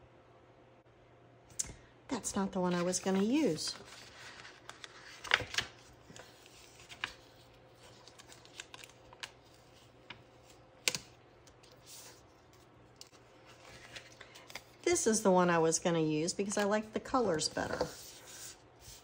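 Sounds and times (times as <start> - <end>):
paper and sticker sheets rustling: 2.2 - 15.4, 16.4 - 19.0.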